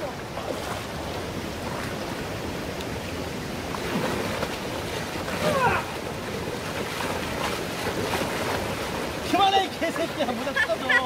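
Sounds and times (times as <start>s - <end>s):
stream flowing over rocks: 0.0s - 11.0s
water splashing: 0.0s - 11.0s.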